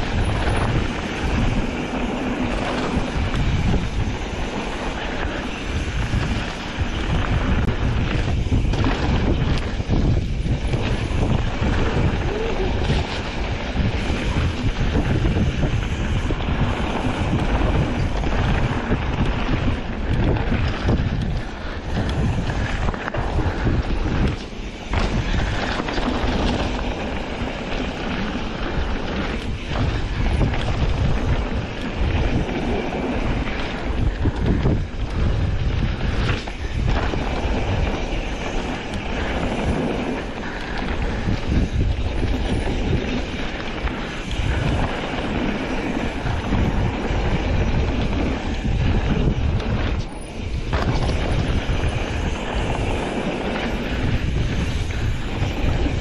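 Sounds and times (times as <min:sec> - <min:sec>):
small rattles and ticks: 0:00.0 - 0:56.0
tyres rumbling on dirt trail: 0:00.0 - 0:56.0
wind buffeting microphone: 0:00.0 - 0:56.0.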